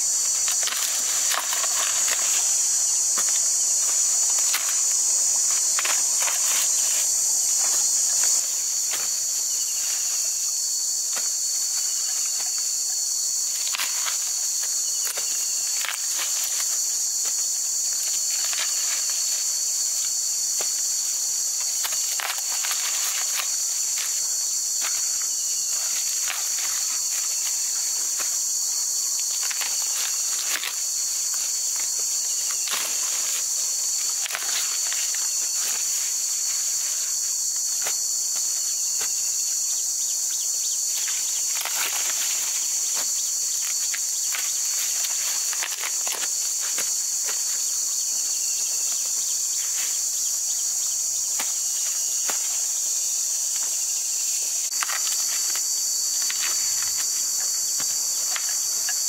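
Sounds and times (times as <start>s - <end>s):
insect chorus buzzing: 0.0s - 59.0s
corn husks rustling and snapping: 0.3s - 10.4s, 11.1s - 39.4s, 40.9s - 47.7s, 54.7s - 59.0s.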